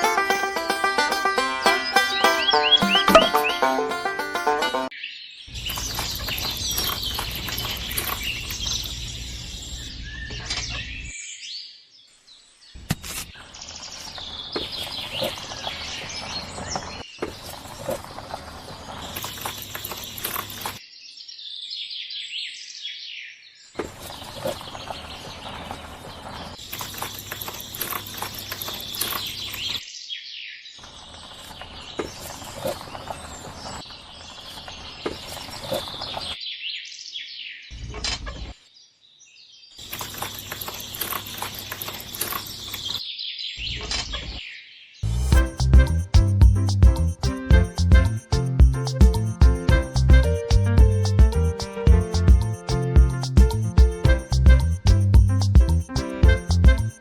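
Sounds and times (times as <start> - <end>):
birds chirping: 0.2 - 21.2, 23.7 - 37.8, 39.6 - 57.0.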